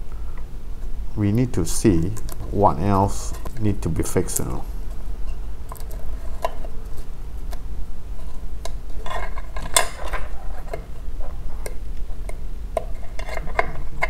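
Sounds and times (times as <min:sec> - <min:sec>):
steady low hum: 0:00.0 - 0:14.0
rustling and scraping: 0:02.1 - 0:14.0.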